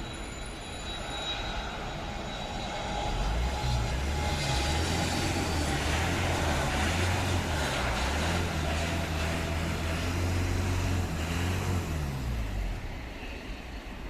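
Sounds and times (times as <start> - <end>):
jet airliner engine rumble: 0.0 - 14.0.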